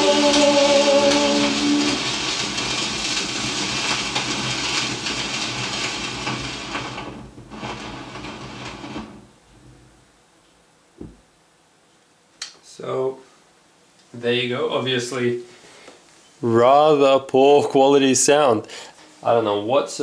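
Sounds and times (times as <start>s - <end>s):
record surface hiss and crackle: 0.0s - 20.0s.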